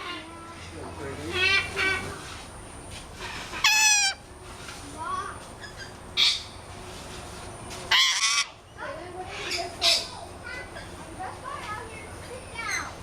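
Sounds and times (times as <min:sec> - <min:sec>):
birds calling: 0:00.0 - 0:04.3, 0:05.5 - 0:06.9, 0:07.5 - 0:13.0.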